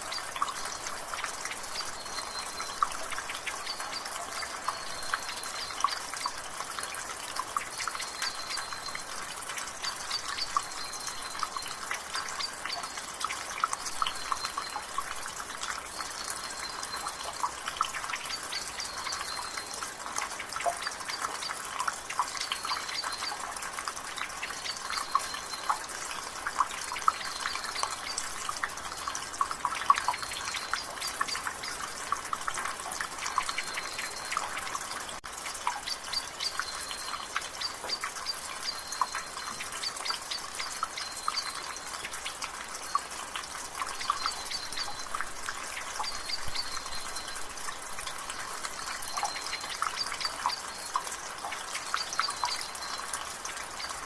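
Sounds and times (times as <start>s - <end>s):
light rain hiss: 0.0s - 54.0s
water dripping from gutter: 0.0s - 54.0s.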